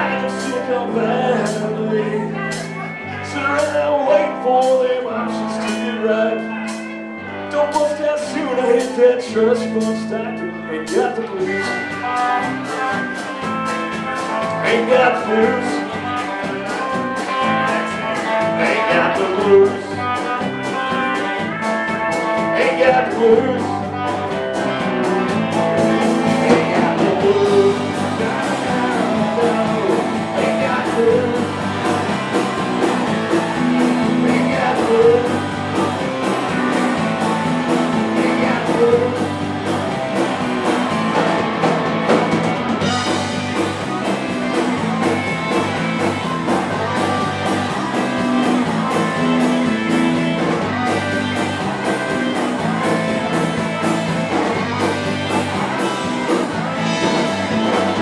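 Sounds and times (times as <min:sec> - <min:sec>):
lead guitar bending notes: 0:00.0 - 0:58.0
live rock blues band: 0:00.0 - 0:58.0.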